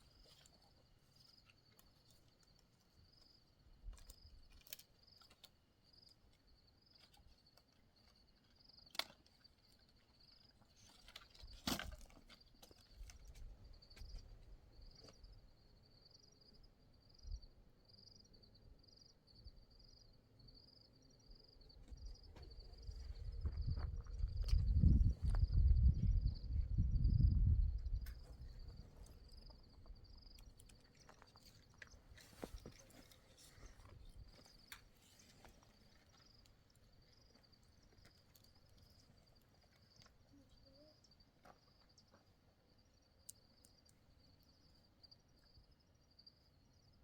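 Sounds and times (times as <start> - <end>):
cricket chirping: 0.0 - 47.0.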